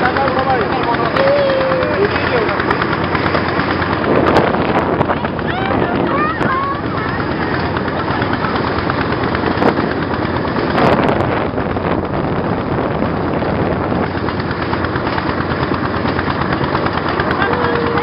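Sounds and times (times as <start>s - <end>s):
motorboat engine chugging: 0.0s - 18.0s.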